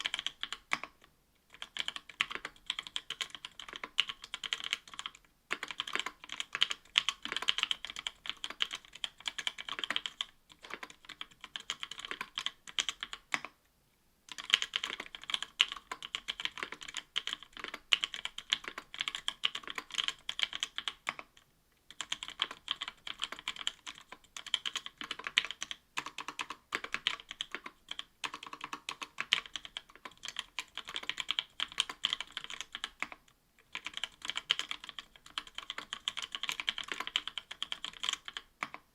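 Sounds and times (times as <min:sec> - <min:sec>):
fast typing on mechanical keyboard: 0:00.0 - 0:13.5, 0:14.3 - 0:21.3, 0:21.9 - 0:38.8.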